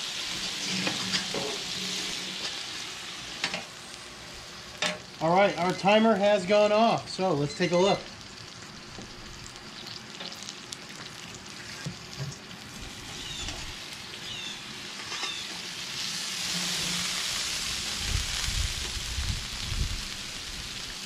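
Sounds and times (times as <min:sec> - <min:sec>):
meat sizzling on a griddle: 0:00.0 - 0:21.0.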